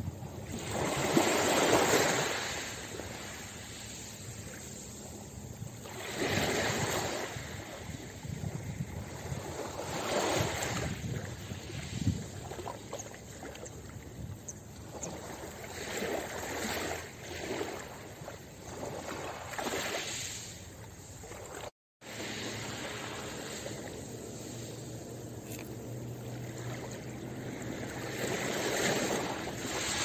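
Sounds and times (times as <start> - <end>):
small waves on pebble shore: 0.5 - 5.2, 5.8 - 13.7, 14.9 - 30.0.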